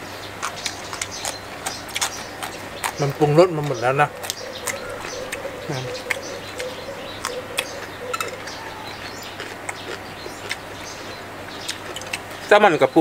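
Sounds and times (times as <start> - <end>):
chewing crispy food: 0.0 - 12.5
mouth clicks: 0.4 - 12.5
faint bird chirps: 0.5 - 13.0.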